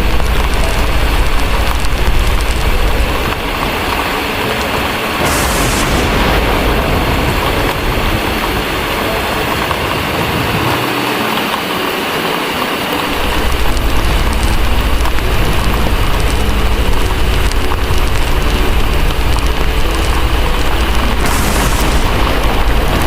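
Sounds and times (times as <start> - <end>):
thunder rumbling: 0.0 - 11.1, 13.0 - 23.0
heavy rain hissing: 0.0 - 23.0.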